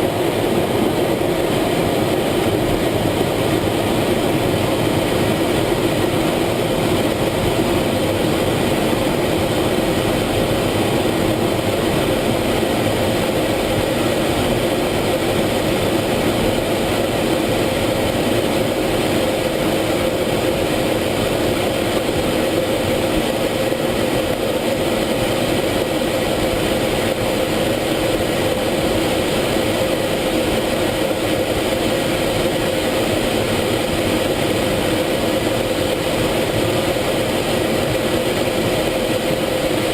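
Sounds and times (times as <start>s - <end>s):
jet engine drone in cockpit: 0.0s - 39.9s.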